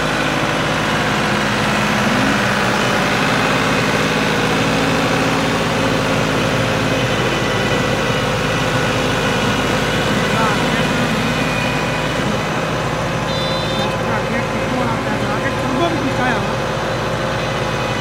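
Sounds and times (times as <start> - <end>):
seeder rotor churning soil: 0.0 - 18.0
tractor diesel engine running: 0.0 - 18.0.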